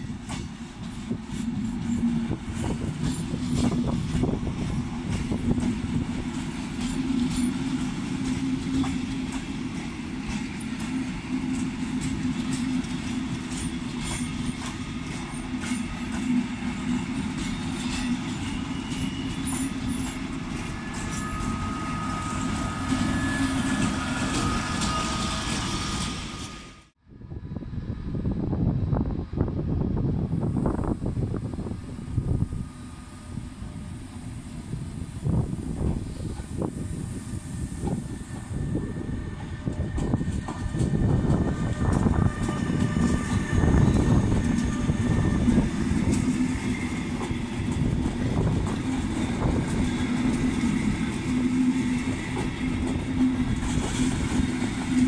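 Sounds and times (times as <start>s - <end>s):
diesel locomotive passing: 0.0s - 55.0s
train coaches rumbling past: 0.0s - 55.0s.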